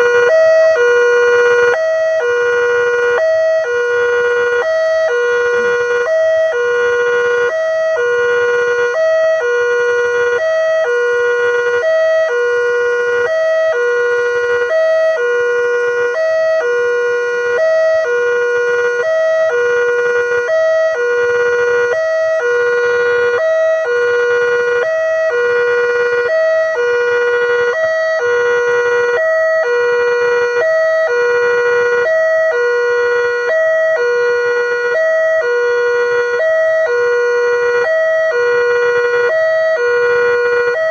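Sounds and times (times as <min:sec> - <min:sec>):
level crossing two-tone alarm: 0:00.0 - 0:40.9.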